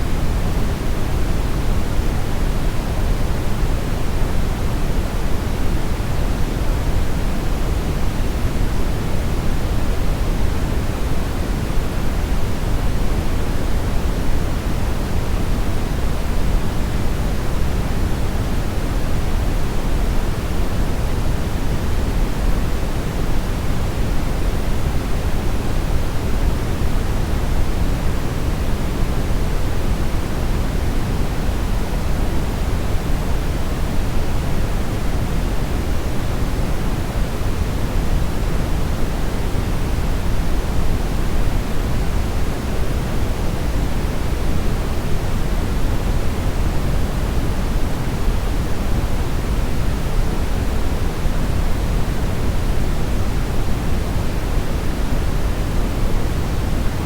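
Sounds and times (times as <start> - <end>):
brown noise hiss: 0.0 - 57.0.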